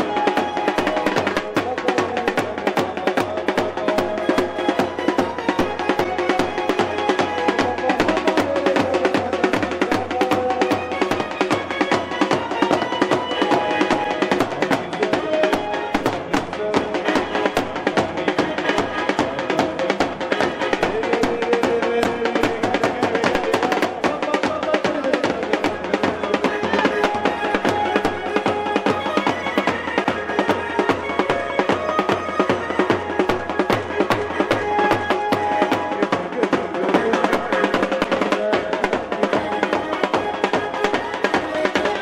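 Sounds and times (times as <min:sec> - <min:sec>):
busy drumming: 0:00.0 - 0:42.0
held melody: 0:00.0 - 0:42.0.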